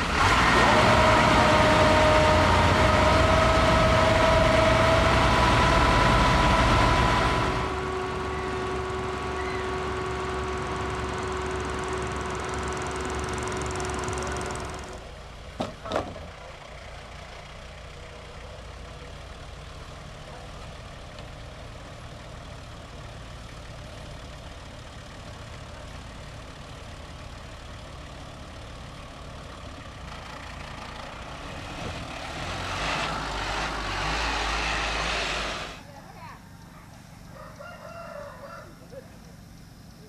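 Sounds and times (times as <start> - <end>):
van engine running: 0.0 - 40.0.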